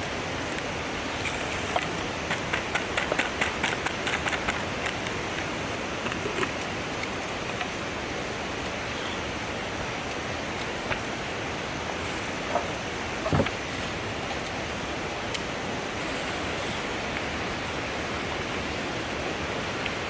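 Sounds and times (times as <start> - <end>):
mountain stream rushing: 0.0 - 20.0.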